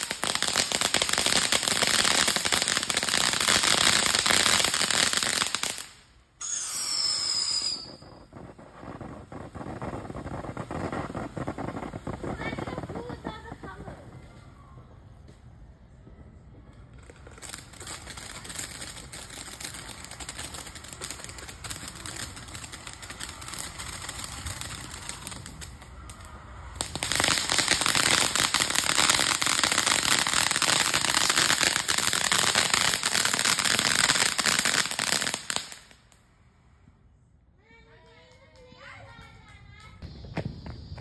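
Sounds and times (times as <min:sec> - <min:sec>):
firework fountain crackling: 0:00.0 - 0:37.0.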